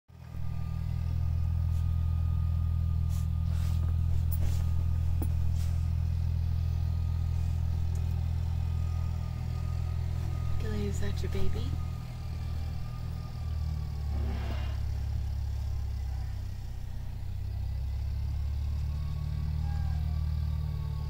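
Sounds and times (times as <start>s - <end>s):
steady low hum: 0.2s - 20.9s.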